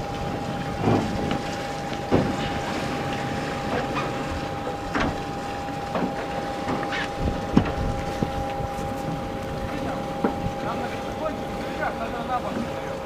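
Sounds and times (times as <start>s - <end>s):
boat engine humming: 0.0s - 13.0s
thin steady whine: 0.0s - 13.0s
water splashing against hull: 0.0s - 13.0s.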